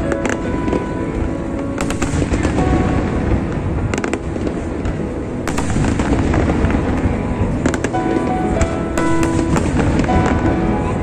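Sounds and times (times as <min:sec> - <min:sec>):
sharp firework cracks: 0:00.0 - 0:11.0.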